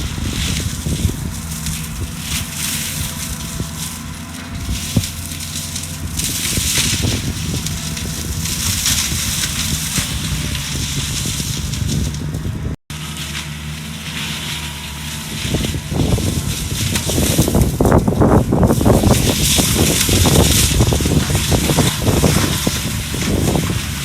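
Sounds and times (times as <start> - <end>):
mulcher shredding brush and wood: 0.0 - 24.0
skid steer engine under load: 0.0 - 24.0.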